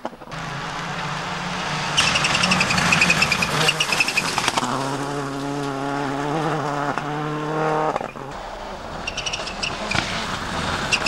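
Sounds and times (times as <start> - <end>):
rally car engine at high revs: 0.0 - 11.0.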